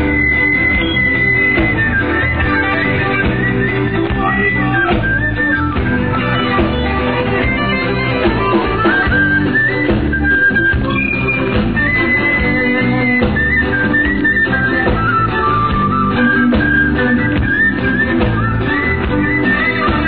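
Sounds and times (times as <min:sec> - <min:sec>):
lead melody line: 0:00.0 - 0:20.0
live rock band playing: 0:00.0 - 0:20.0.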